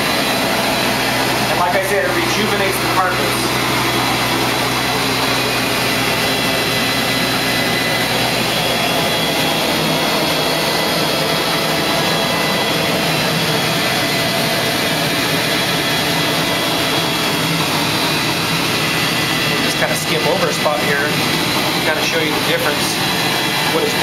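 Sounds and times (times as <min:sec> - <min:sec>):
carpet extraction vacuum roaring: 0:00.0 - 0:24.0.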